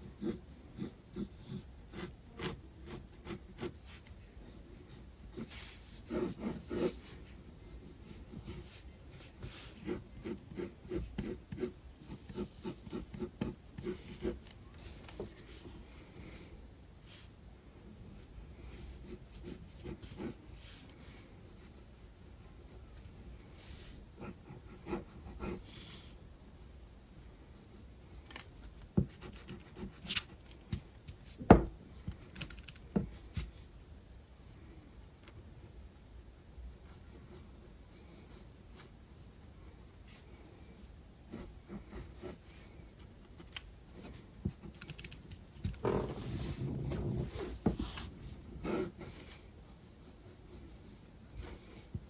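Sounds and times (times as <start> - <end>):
pencil scratching on paper: 0.0 - 15.9, 18.1 - 32.2, 34.8 - 44.8, 45.8 - 52.0.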